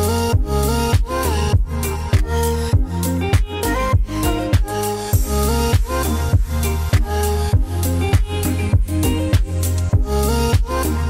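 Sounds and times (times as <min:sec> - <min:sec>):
bass line: 0:00.0 - 0:11.0
melody: 0:00.0 - 0:11.0
low drum beat: 0:00.4 - 0:10.8.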